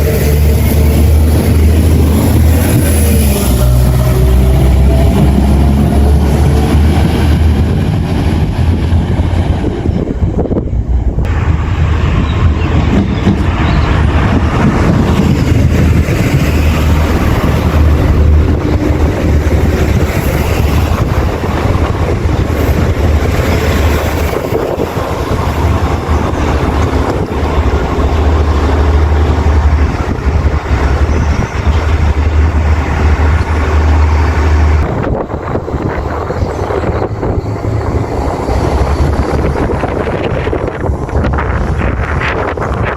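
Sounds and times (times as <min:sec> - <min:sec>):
diesel train passing: 0:00.0 - 0:42.9.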